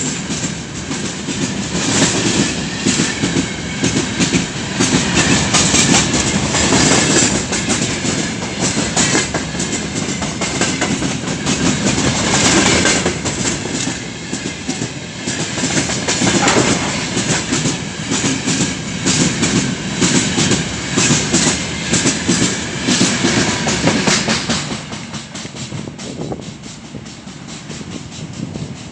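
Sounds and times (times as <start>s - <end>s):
train wheels clattering over rails: 0.0s - 28.9s.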